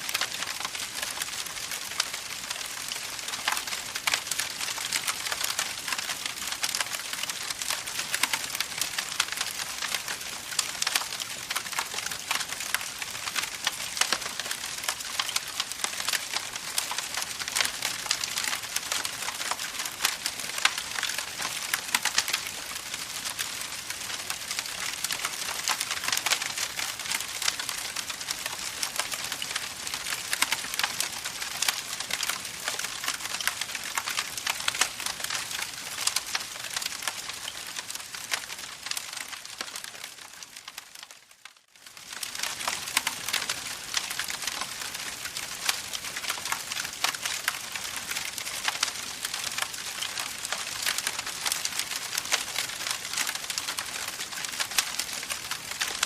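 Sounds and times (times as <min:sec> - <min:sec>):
campfire crackling: 0:00.0 - 0:41.1, 0:41.9 - 0:56.0.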